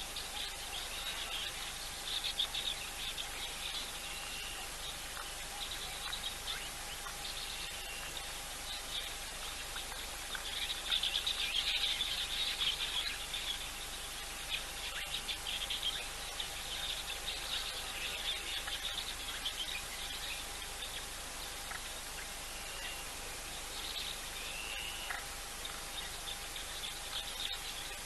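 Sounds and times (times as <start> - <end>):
birds chirping: 0.0 - 28.0
faint steady tone: 0.0 - 28.0
steady hiss: 0.0 - 28.0.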